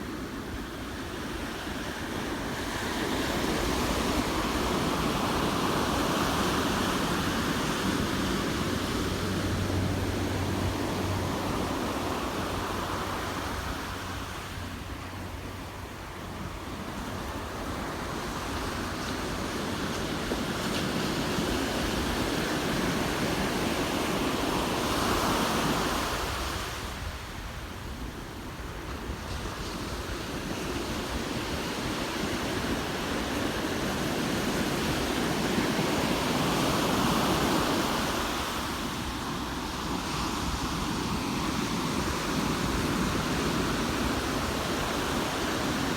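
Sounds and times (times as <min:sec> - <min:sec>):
ocean surf breaking on beach: 0:00.0 - 0:45.9.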